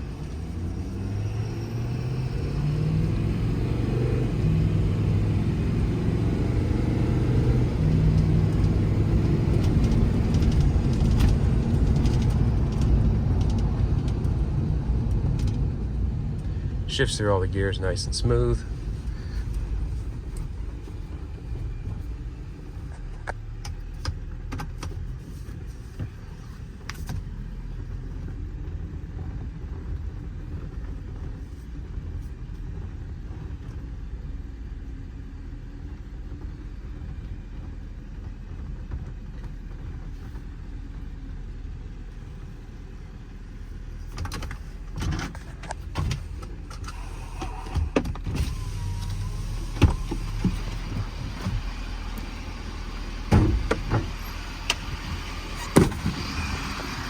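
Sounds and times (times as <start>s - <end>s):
diesel engine and road rumble: 0.0s - 57.0s.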